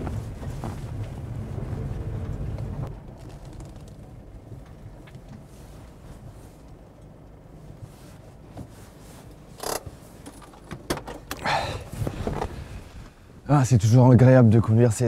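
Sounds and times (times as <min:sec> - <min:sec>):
van engine: 0:00.0 - 0:13.6.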